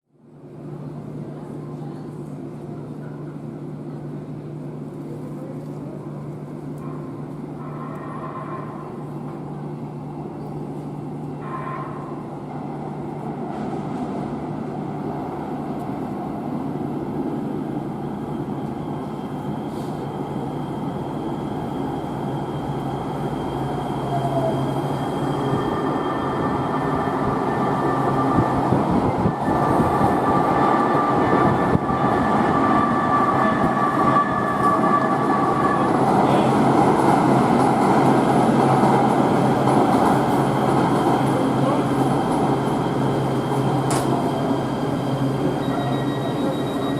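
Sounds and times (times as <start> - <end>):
train rumble: 0.4 - 46.9.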